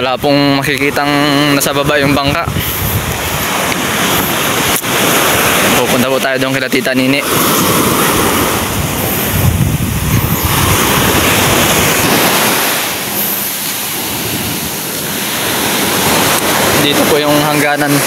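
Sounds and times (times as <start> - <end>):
wind buffeting microphone: 0.0 - 6.0, 7.2 - 18.0
sea waves washing on shore: 0.0 - 18.0.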